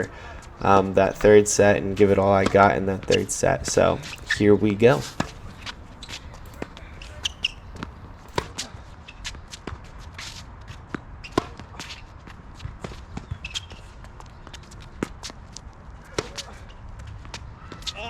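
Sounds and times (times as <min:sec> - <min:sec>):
shoe squeaks: 0:00.0 - 0:15.0, 0:17.4 - 0:18.0
footsteps on tennis court: 0:00.0 - 0:18.0.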